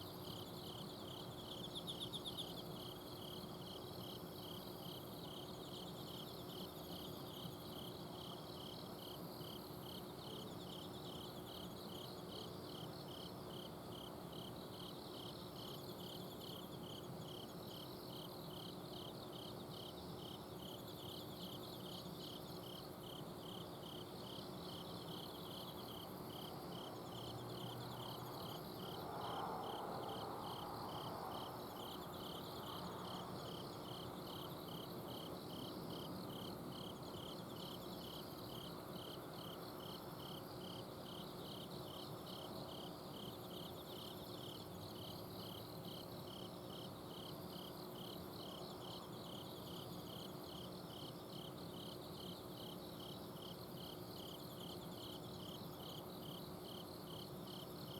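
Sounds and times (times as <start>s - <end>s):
insect chirping: 0.0s - 57.9s
insects trilling: 0.2s - 57.9s.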